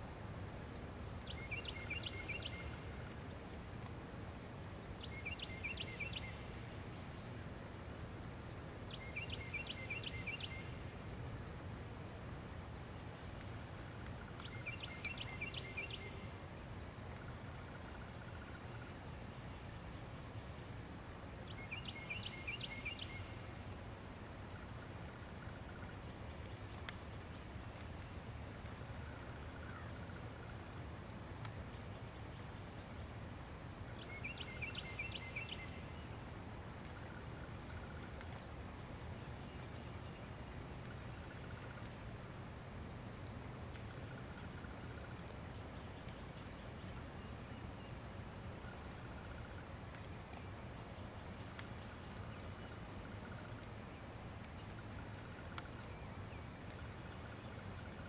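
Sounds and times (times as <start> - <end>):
small birds chirping: 0.4 - 3.9, 4.6 - 20.1, 21.4 - 58.0.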